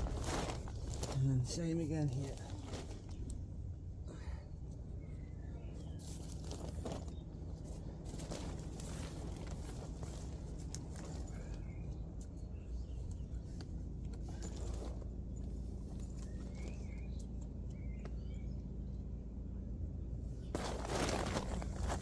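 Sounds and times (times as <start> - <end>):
low outdoor rumble: 0.0 - 22.0
faint bird chirps: 2.4 - 20.5.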